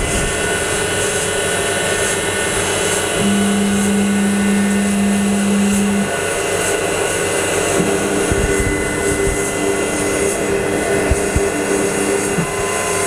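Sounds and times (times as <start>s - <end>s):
axis drive whine: 0.0s - 13.0s
pulsing hum: 0.0s - 13.0s.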